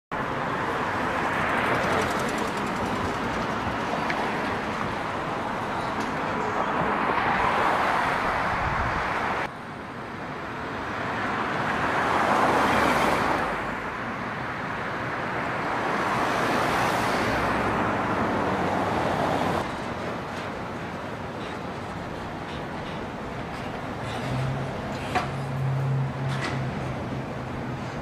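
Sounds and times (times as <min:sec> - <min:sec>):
cars driving by: 0:00.2 - 0:28.0.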